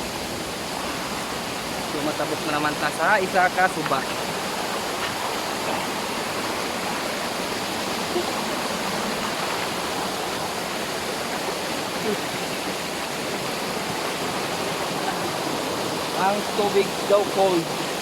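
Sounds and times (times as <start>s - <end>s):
water flowing over rocks: 0.0s - 18.0s.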